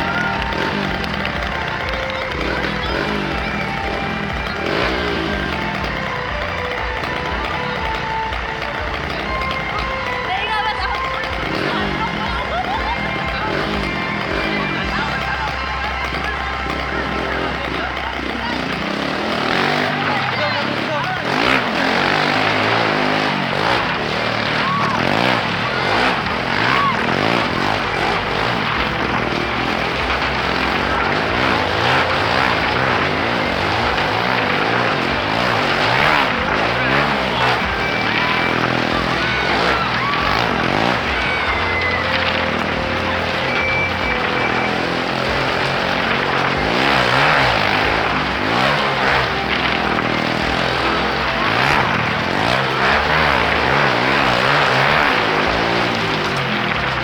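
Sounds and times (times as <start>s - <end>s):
motorcycle engine revving in laps: 0.0s - 57.0s.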